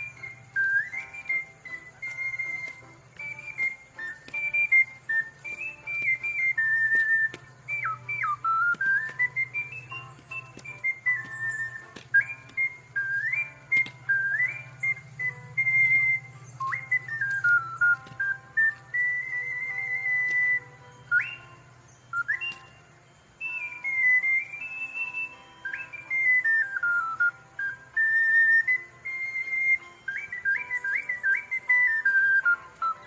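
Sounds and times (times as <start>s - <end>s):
ocarina melody: 0.0s - 33.0s.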